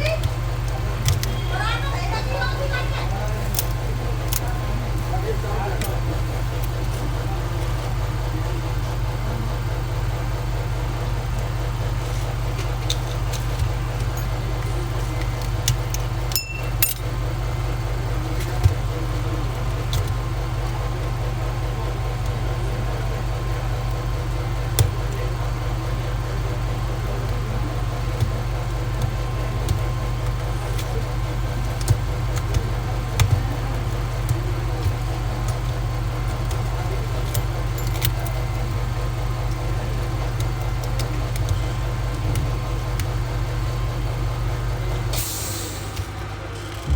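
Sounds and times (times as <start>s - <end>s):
low machine hum: 0.0s - 46.9s.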